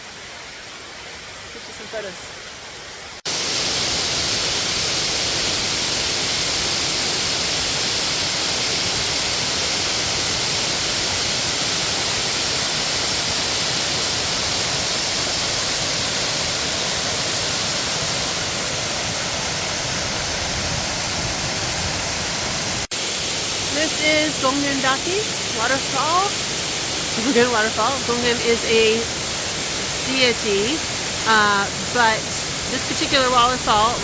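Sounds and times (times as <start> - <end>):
waterfall rushing: 3.2 - 34.0.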